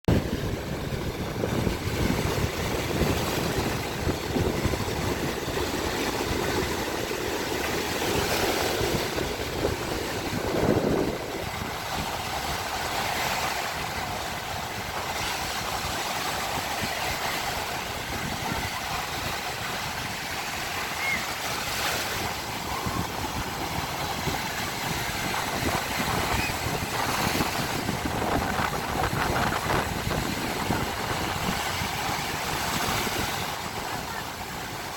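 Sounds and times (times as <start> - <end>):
waves washing onto shore: 0.1 - 34.9
wind rumbling on microphone: 0.1 - 34.9.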